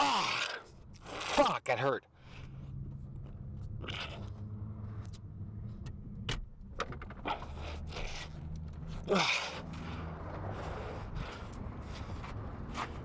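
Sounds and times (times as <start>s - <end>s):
steady low hum: 2.1s - 13.0s.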